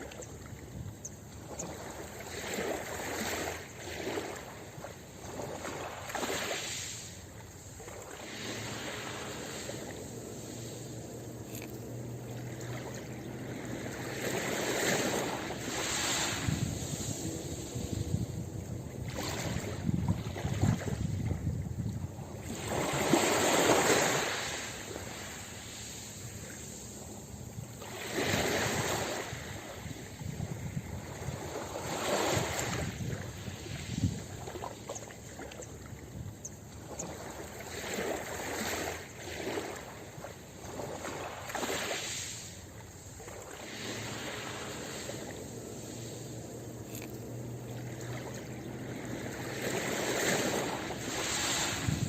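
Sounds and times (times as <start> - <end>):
ocean waves breaking on beach: 0.0 - 52.0.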